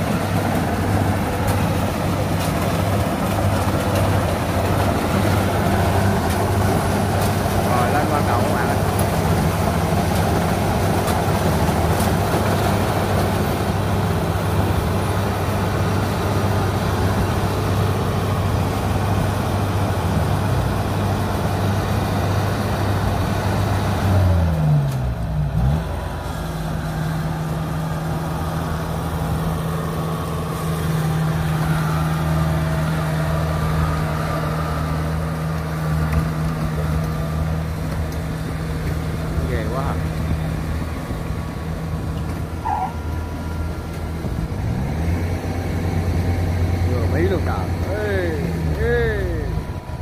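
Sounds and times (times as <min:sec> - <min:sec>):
combine harvester diesel engine: 0:00.0 - 0:50.0.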